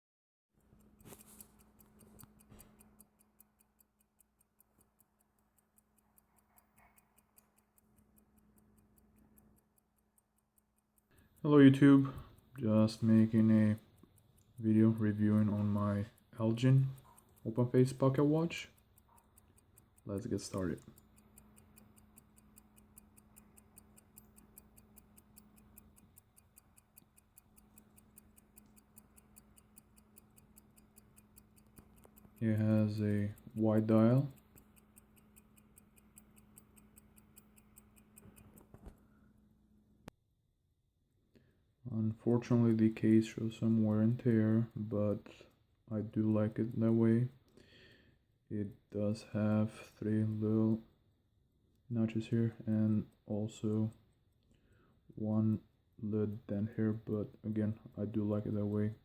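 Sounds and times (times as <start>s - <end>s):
pocket watch ticking: 0.6s - 39.9s, 42.4s - 59.0s.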